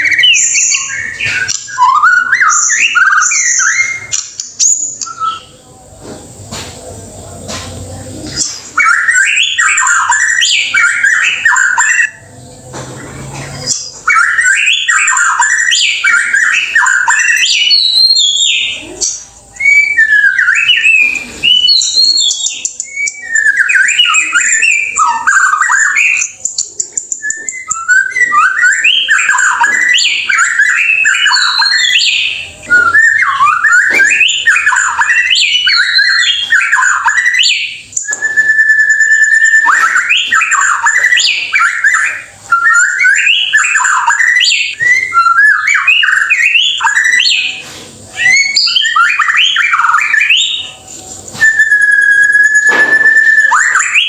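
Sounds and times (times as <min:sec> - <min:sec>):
bird singing whistles and trills: 0:00.0 - 0:05.7, 0:08.2 - 0:12.4, 0:13.6 - 0:54.0.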